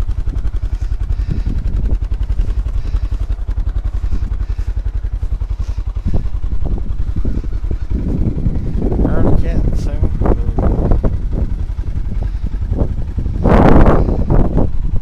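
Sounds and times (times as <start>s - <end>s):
off-road vehicle engine idling: 0.0s - 15.0s.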